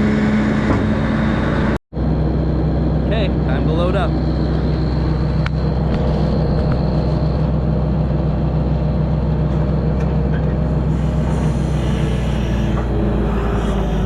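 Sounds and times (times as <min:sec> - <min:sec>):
diesel truck engine humming: 0:00.0 - 0:14.0.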